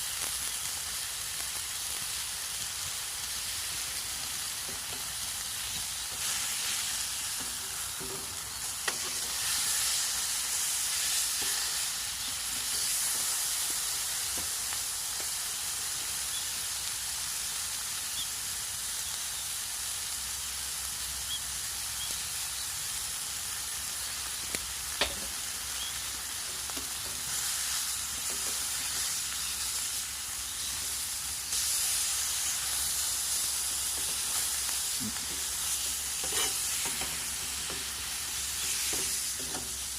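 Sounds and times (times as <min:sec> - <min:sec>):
steak sizzling in a frying pan: 0:00.0 - 0:39.9.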